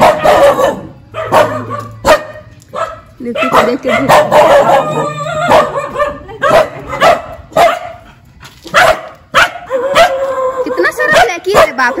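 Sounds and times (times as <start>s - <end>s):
dog barking: 0.0s - 8.1s, 8.7s - 12.0s.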